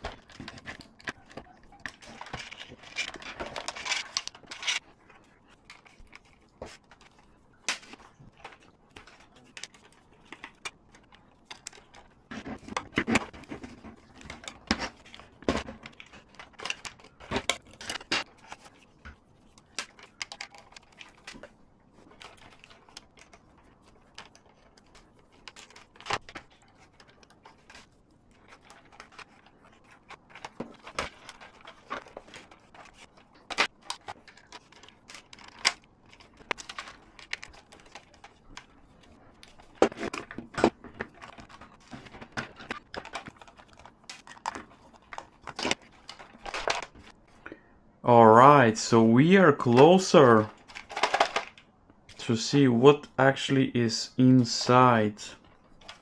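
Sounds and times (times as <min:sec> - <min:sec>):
plastic parts and tools rattling: 0:00.0 - 0:47.6, 0:49.4 - 0:52.3, 0:54.5 - 0:56.0.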